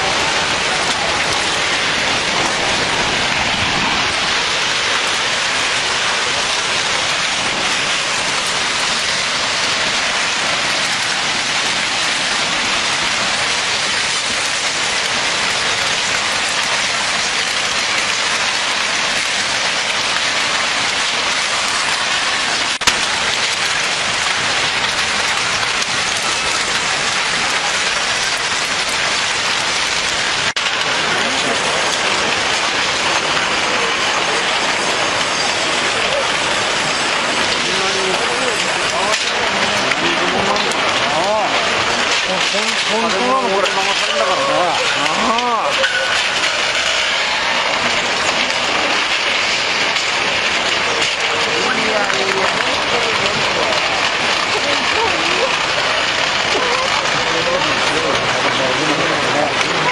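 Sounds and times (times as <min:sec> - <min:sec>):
flood water rushing: 0:00.0 - 0:59.9
sharp crack: 0:00.0 - 0:59.9.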